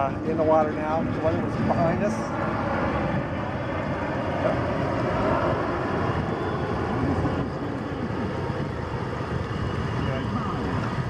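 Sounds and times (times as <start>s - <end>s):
steady engine drone: 0.0s - 11.0s
wind noise: 0.0s - 11.0s.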